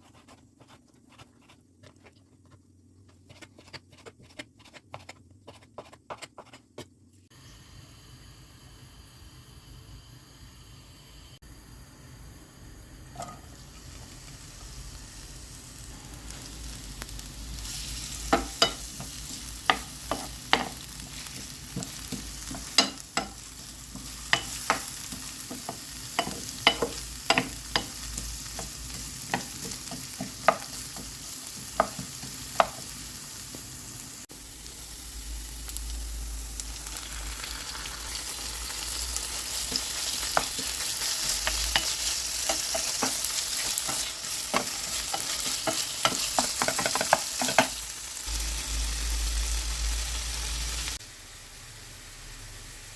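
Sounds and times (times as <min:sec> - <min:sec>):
food sizzling in a pan: 0:07.3 - 0:52.9.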